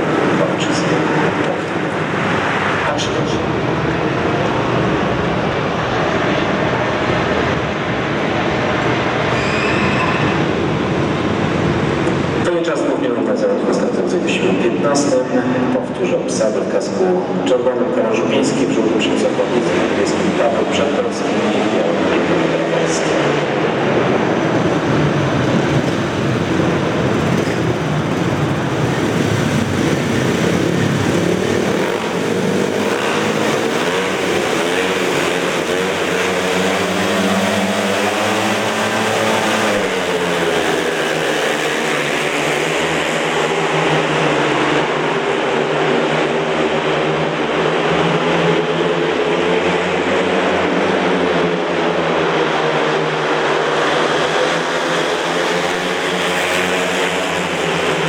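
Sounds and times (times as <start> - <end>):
motorcycles racing at high revs: 0.0 - 58.0.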